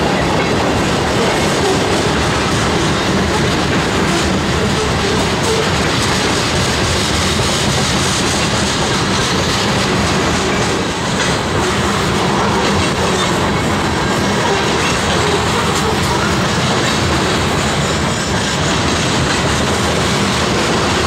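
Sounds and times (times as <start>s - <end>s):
steel train wheels on rails: 0.0s - 21.0s.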